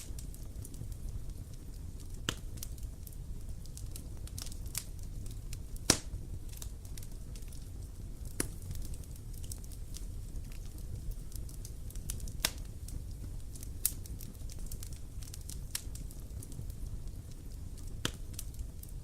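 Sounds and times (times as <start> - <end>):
bonfire crackling: 0.0 - 19.0
low steady rumble: 0.0 - 19.0.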